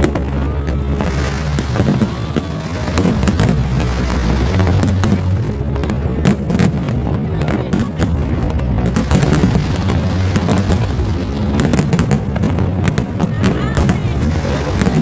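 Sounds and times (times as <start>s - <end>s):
fireworks popping and crackling: 0.0s - 15.0s
loud music: 0.0s - 15.0s.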